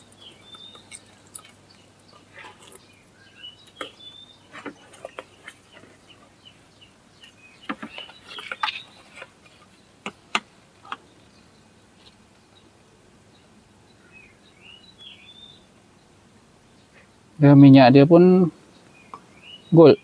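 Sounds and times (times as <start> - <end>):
bird chirps: 0.0 - 17.6, 18.2 - 20.0.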